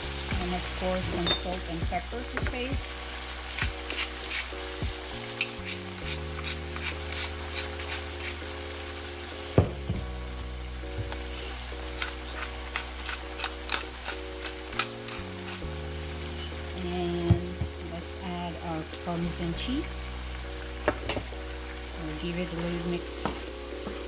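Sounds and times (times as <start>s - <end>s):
food sizzling in a pan: 0.0s - 24.0s
soft background music: 0.0s - 24.0s.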